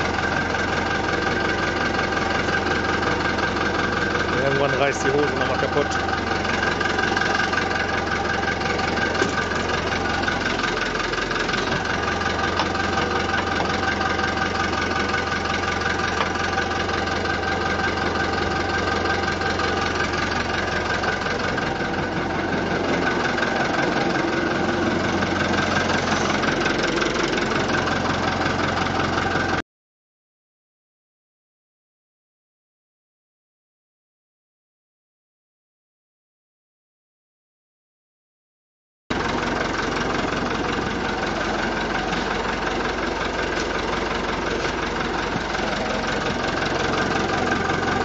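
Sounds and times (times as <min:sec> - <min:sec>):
tractor diesel engine idling: 0:00.0 - 0:29.6, 0:39.1 - 0:48.0.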